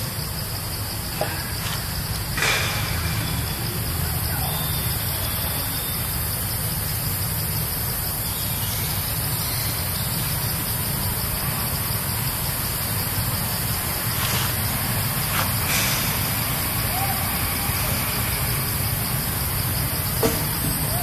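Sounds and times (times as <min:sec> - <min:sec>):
high hiss: 0:00.1 - 0:21.0.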